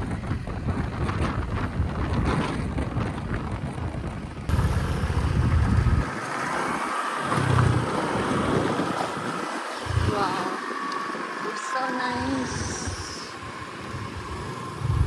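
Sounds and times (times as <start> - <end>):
vehicle travel noise: 0.0 - 15.0
wind buffeting microphone: 0.0 - 15.0.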